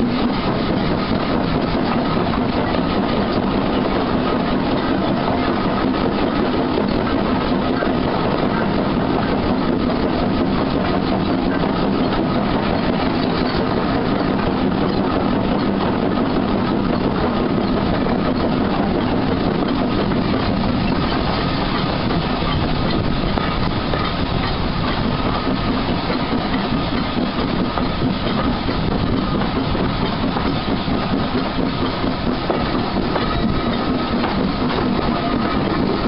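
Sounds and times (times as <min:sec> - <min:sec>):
carriage wheels on rails: 0:00.0 - 0:36.0
steam locomotive working hard: 0:00.0 - 0:36.0.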